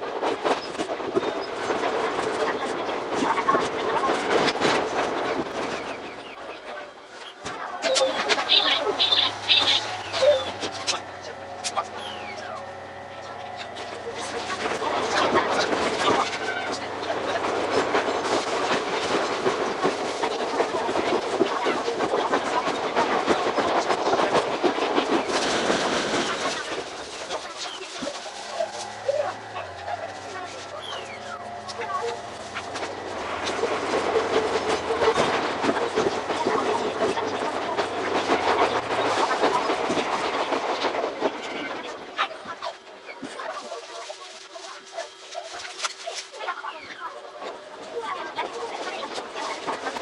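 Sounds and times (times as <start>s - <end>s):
train wheels clattering over rails: 0.0s - 44.9s, 47.0s - 50.0s
electric train running noise: 0.0s - 50.0s.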